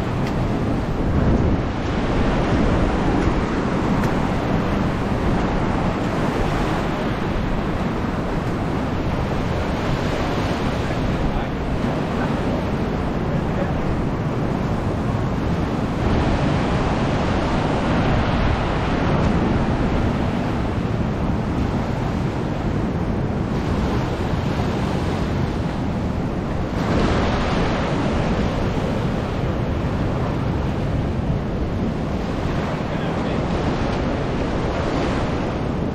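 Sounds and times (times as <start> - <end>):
ocean surf washing ashore: 0.0 - 35.9
wind buffeting microphone: 0.0 - 35.9.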